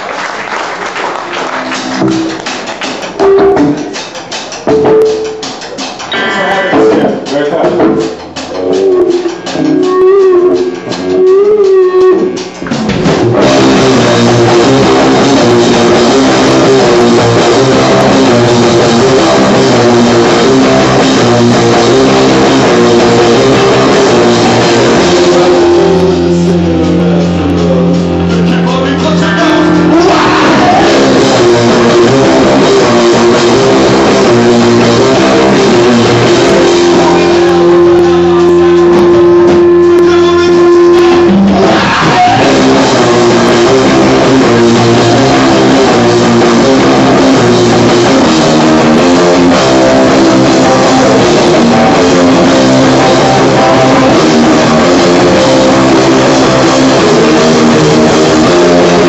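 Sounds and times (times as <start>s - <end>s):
loud rock music: 1.1s - 59.0s.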